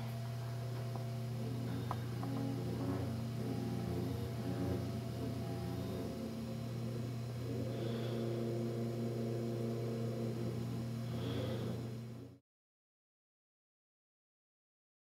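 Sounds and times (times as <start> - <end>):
low droning hum: 0.0 - 12.4.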